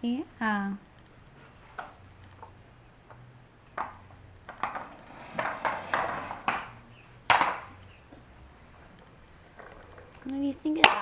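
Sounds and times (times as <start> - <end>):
hard toys clattering: 0.0 - 11.0.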